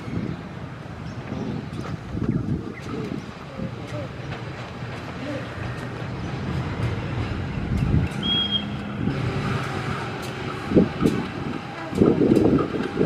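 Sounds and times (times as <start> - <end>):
locomotive engine rumbling: 0.0 - 13.0.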